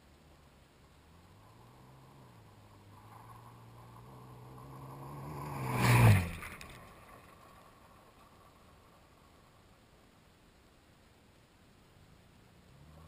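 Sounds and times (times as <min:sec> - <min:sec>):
car passing on gravel: 0:00.0 - 0:13.0.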